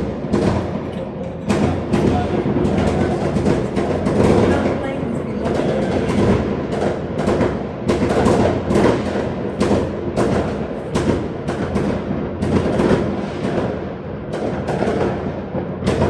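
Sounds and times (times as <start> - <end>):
fireworks banging and crackling: 0.0 - 16.0.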